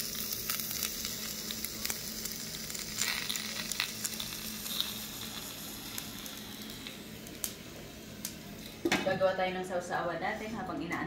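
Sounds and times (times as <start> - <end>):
pork sizzling in skillet: 0.0 - 9.1.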